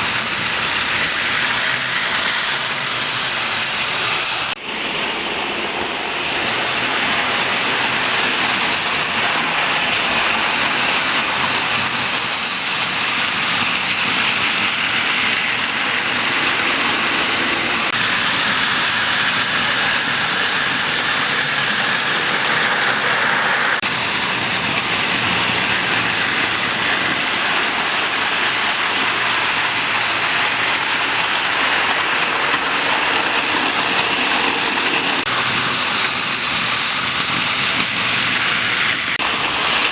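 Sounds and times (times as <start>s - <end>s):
model train rumbling on track: 0.0s - 39.9s.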